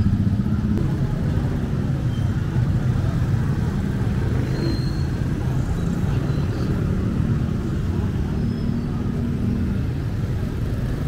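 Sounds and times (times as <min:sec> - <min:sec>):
motorcycle engines droning: 0:00.0 - 0:11.0.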